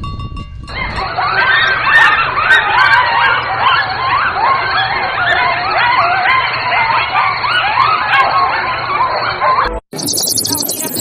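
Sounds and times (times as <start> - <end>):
chorus of animal calls: 0.8 - 11.0.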